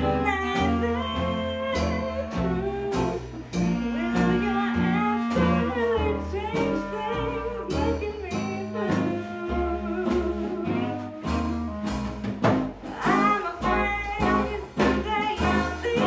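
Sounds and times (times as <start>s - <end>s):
woman singing: 0.0s - 11.5s, 12.8s - 16.0s
clarinet: 0.0s - 16.0s
drums: 0.0s - 16.0s
upright bass walking line: 0.0s - 16.0s.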